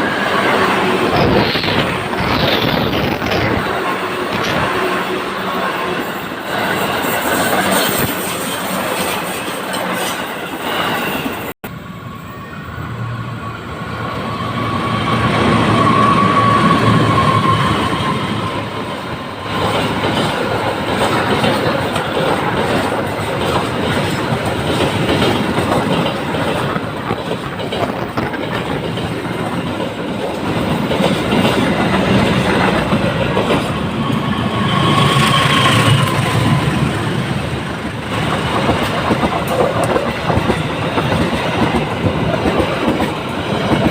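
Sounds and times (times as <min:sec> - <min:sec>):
train wheels on rails: 0:00.0 - 0:43.9.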